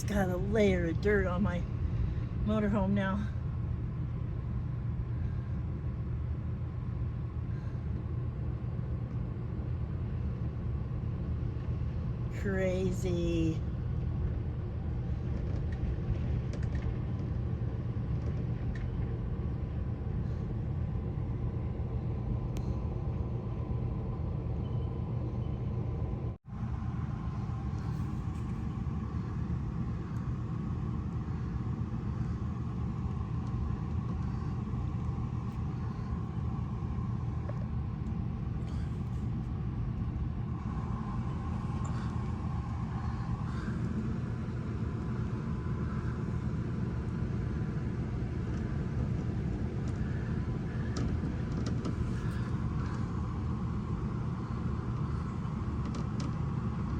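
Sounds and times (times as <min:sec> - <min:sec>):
dust storm wind rumbling: 0:00.0 - 0:24.4, 0:25.0 - 0:56.9.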